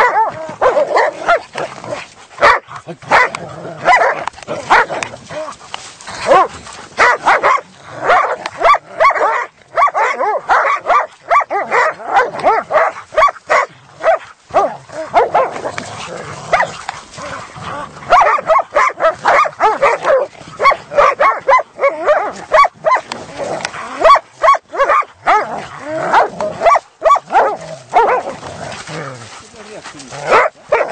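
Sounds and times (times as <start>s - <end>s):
dogs barking and yelping: 0.0s - 30.9s.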